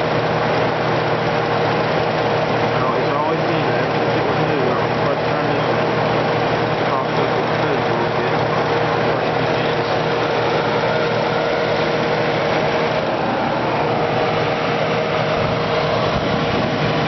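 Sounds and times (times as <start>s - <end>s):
compressor hum: 0.0s - 17.0s
dehumidifier fan air rush: 0.0s - 17.0s.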